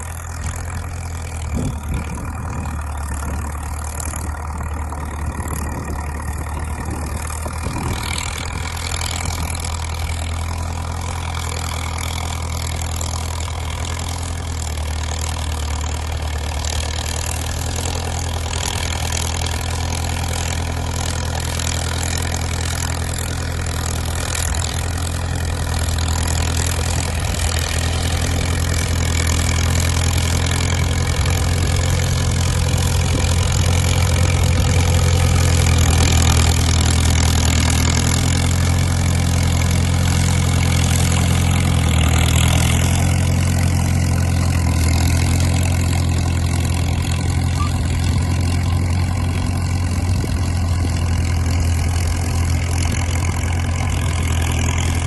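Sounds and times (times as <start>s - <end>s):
diesel engine droning under load: 0.0s - 55.0s.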